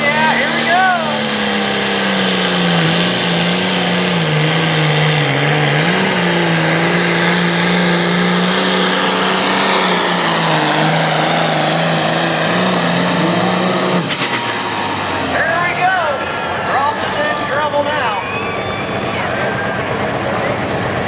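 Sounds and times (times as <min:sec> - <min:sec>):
diesel tractor engine under load: 0:00.0 - 0:21.0.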